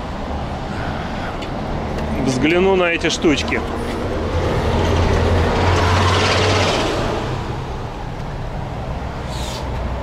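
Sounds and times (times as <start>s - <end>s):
vehicle passing by: 0.6s - 10.0s.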